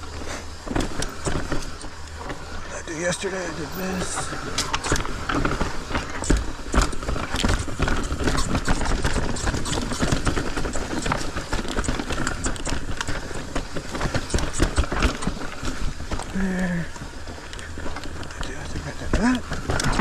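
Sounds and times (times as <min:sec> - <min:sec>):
bike rattling over rocks: 0:00.0 - 0:20.0.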